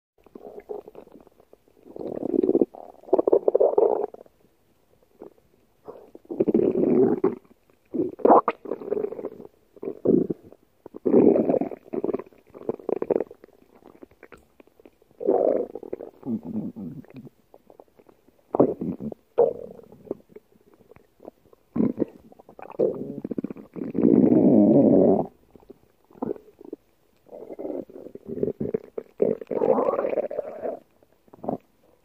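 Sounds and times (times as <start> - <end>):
stomach growling: 0.2 - 4.4, 5.2 - 31.8.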